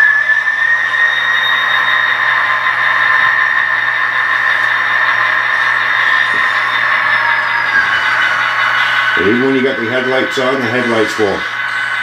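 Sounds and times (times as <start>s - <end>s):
model locomotives whining: 0.0s - 12.0s.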